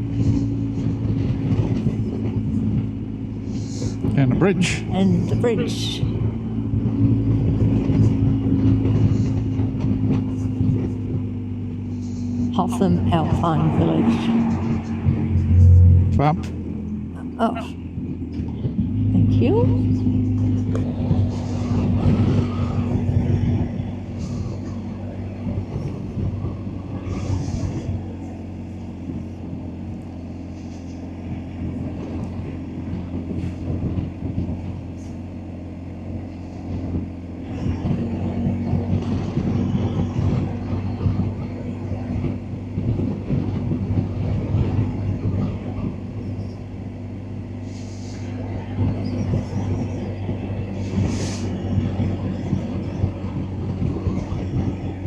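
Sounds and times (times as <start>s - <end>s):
motorcycle engine running: 0.0s - 55.0s
wind rush: 0.0s - 55.0s.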